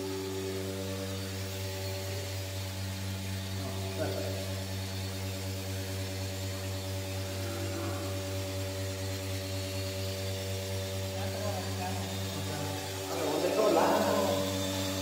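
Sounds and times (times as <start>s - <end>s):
milking machine humming: 0.0s - 15.0s.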